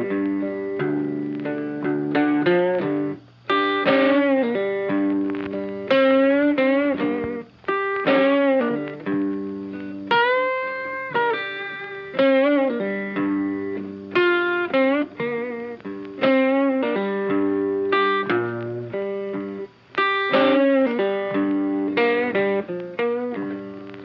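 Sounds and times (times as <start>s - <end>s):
plucked-sounding melody: 0.0s - 24.0s.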